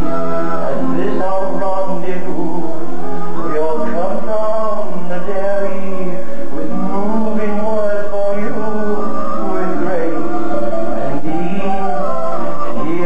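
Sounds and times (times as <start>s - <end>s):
band accompaniment over speakers: 0.0s - 13.0s
man singing show tune: 0.0s - 13.0s.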